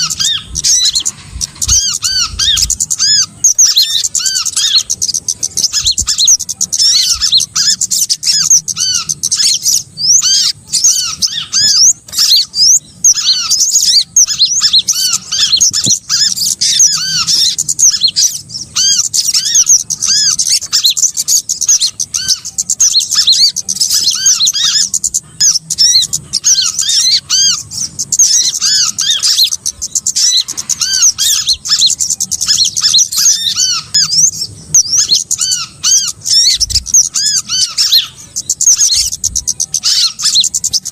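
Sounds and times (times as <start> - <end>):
chorus of songbirds chirping: 0.0 - 40.9.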